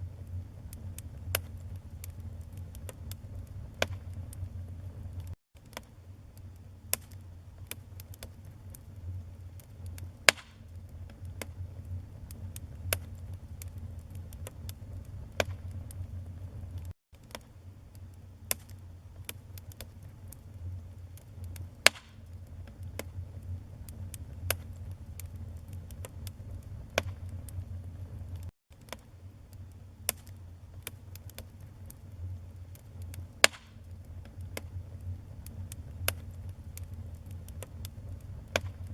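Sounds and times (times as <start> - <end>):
low rumble of burning: 0.0 - 38.9
wood fire crackling and popping: 0.0 - 38.9.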